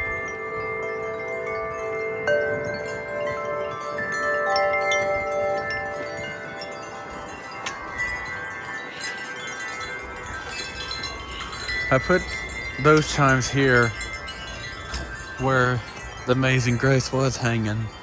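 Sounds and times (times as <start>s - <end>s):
wind chimes ringing: 0.0s - 18.0s.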